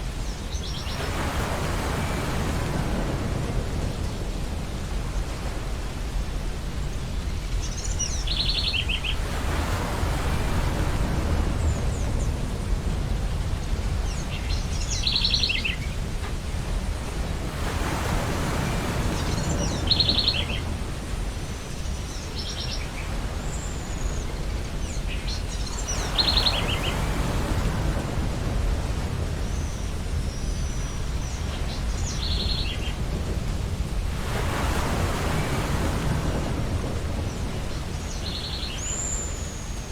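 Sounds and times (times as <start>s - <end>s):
ocean surf washing in: 0.0s - 39.9s.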